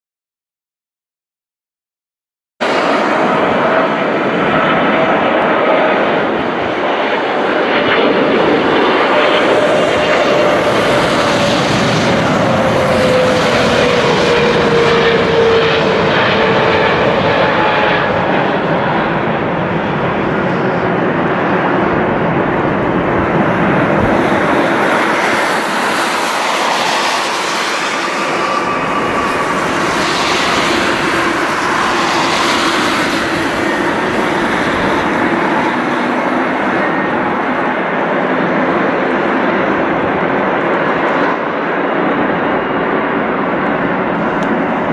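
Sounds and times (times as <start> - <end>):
jet airliner engine noise: 2.6 - 44.9
jet engine whine falling in pitch: 2.6 - 44.9.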